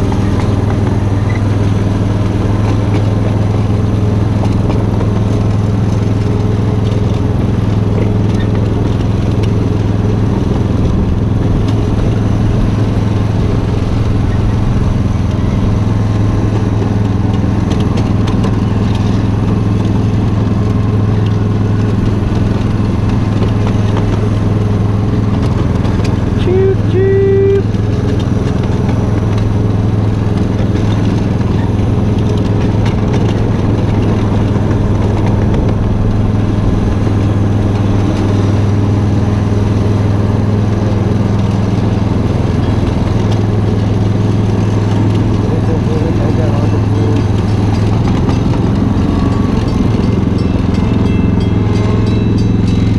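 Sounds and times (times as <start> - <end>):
miniature train engine hum: 0.0 - 52.9.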